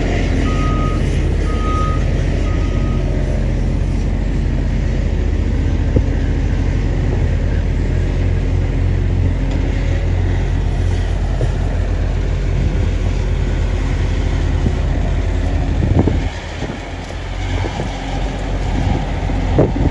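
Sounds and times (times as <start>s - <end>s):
distant machinery rumble: 0.0s - 19.9s
excavator diesel engine drone: 0.0s - 19.9s.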